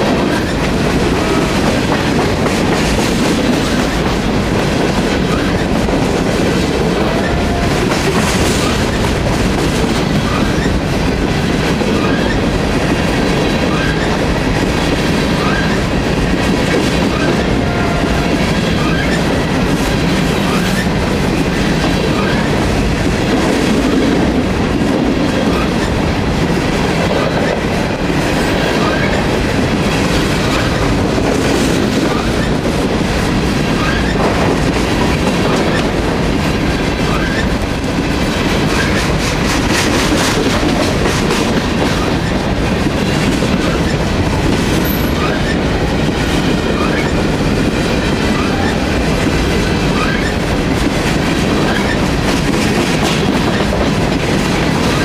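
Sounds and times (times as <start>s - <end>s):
steel wheels rumbling on rails: 0.0s - 55.0s
wheels clacking over rail joints: 0.0s - 55.0s.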